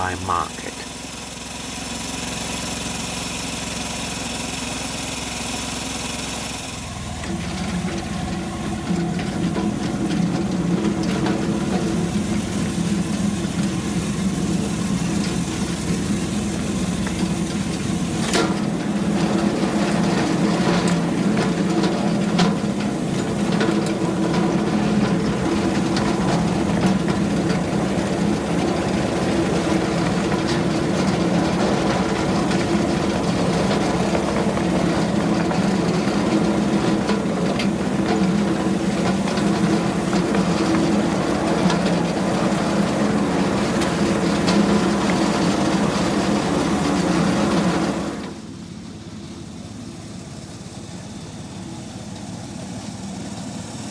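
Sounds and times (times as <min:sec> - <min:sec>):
locomotive engine running: 0:00.0 - 0:53.9.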